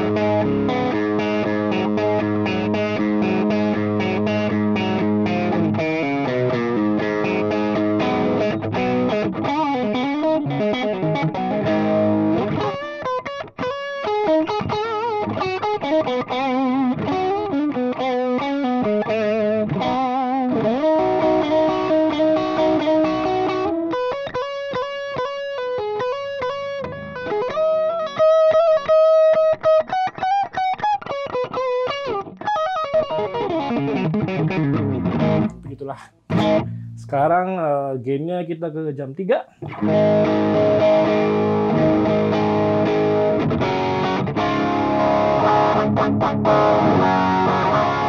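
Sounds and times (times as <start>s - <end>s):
overdriven electric guitar lead: 0.0s - 37.2s, 39.6s - 48.0s.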